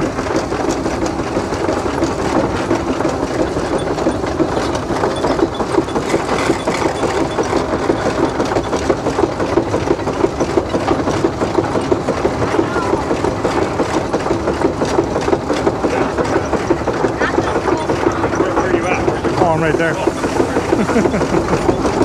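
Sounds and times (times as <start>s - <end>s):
gearing turning: 0.0s - 22.0s
steam traction engine running: 0.0s - 22.0s.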